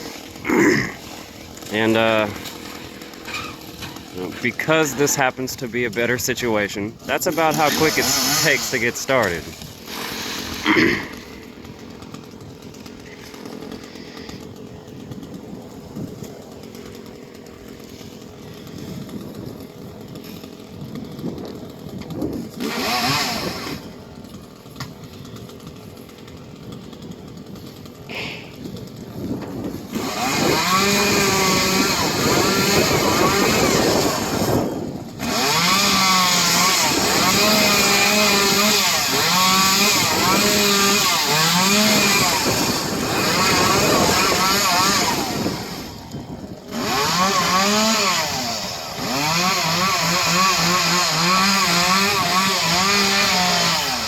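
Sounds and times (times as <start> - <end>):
chainsaw revving and cutting: 0.0 - 54.0.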